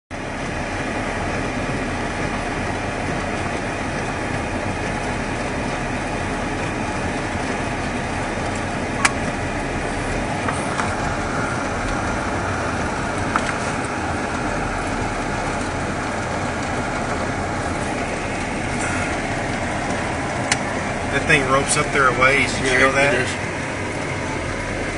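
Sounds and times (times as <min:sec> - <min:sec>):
vehicle noise inside cab: 0:00.1 - 0:24.9.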